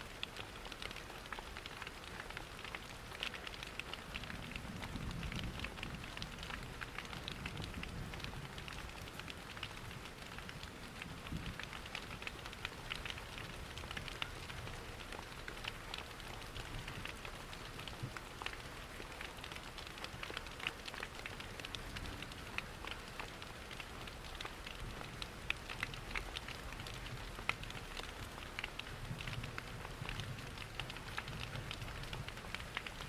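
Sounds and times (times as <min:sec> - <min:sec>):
steady rain: 0:00.0 - 0:33.0
wood fire crackling: 0:00.2 - 0:33.0.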